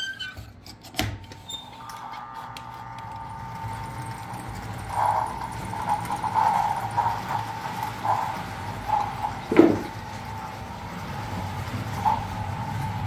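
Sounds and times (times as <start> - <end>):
model train wheels rolling: 1.3 - 13.0
model train motor whine: 1.5 - 13.0.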